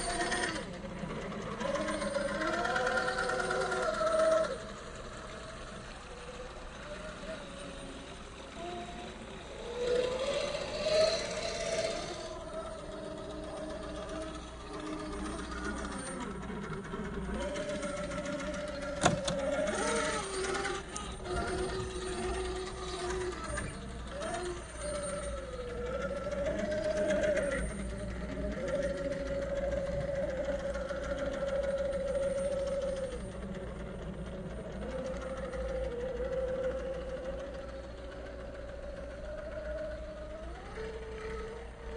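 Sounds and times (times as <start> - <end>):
toy motor and gearbox whining: 0.0 - 41.9.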